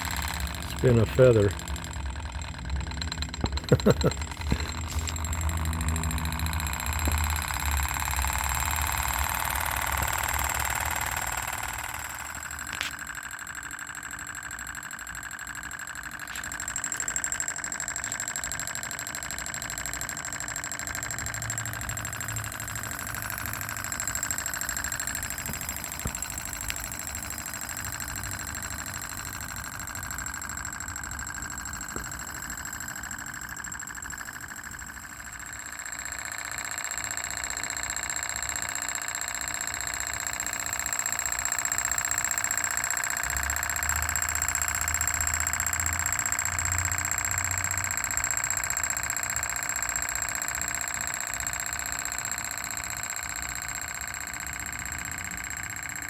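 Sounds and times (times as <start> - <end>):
model engine mechanical ticking: 0.0 - 56.0.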